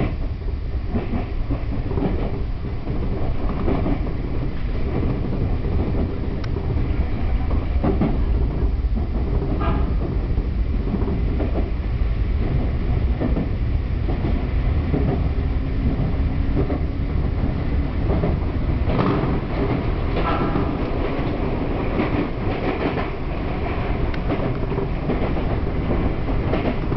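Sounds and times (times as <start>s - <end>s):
train wheels rumbling on rail: 0.0s - 26.9s
clacks over rail joints: 0.9s - 11.8s, 12.4s - 26.9s.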